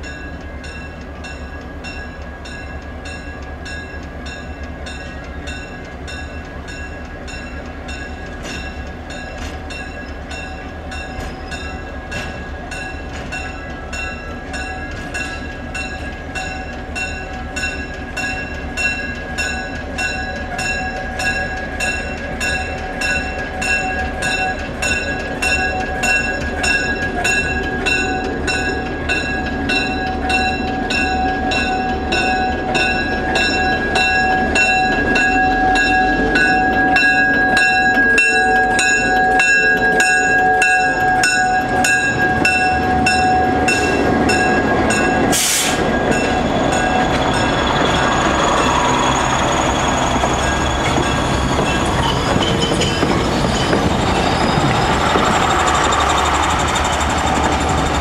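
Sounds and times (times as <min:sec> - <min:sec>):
bell ringing: 0:00.0 - 0:53.8
diesel locomotive passing: 0:00.0 - 0:58.0.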